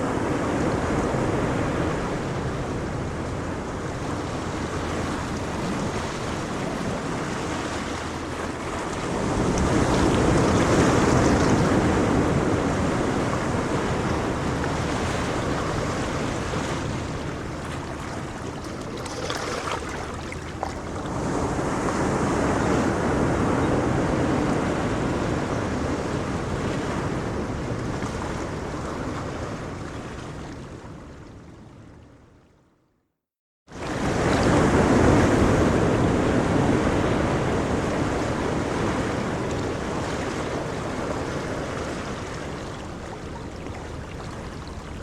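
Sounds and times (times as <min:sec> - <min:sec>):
sea waves breaking: 0:00.0 - 0:31.1, 0:33.8 - 0:45.0.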